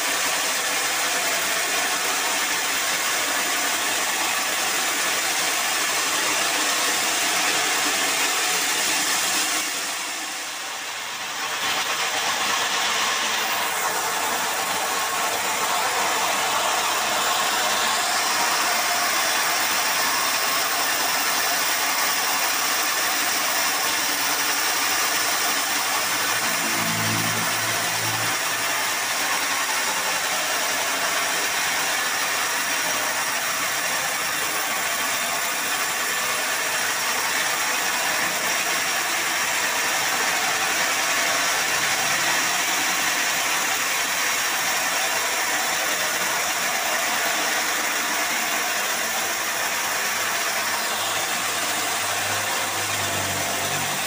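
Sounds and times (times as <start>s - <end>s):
band saw cutting log: 0.0s - 46.4s, 47.1s - 54.0s.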